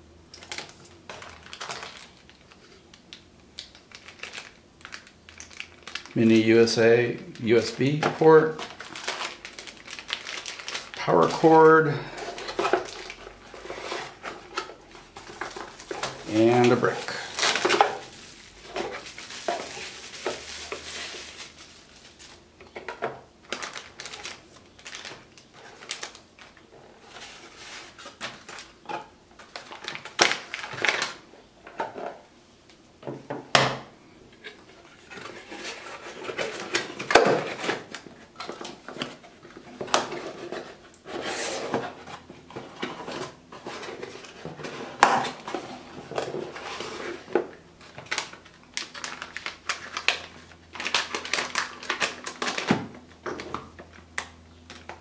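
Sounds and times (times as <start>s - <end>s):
cardboard and plastic rustling: 0.3s - 32.2s, 34.3s - 55.0s.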